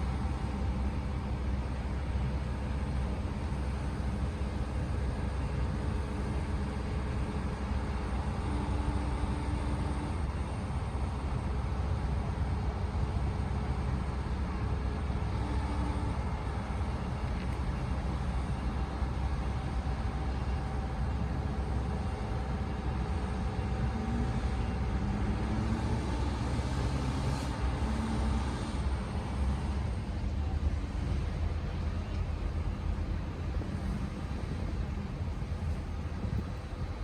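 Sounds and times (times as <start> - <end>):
excavator diesel engine rumbling: 0.0 - 37.0
faint hydraulic whine: 0.0 - 37.0.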